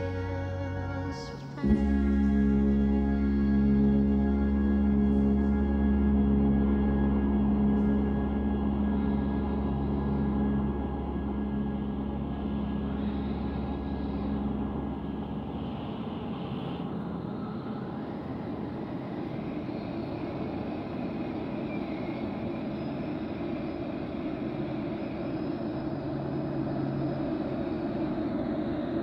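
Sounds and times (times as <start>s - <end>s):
industrial ambient drone: 0.0s - 29.0s
low hum: 0.0s - 29.0s.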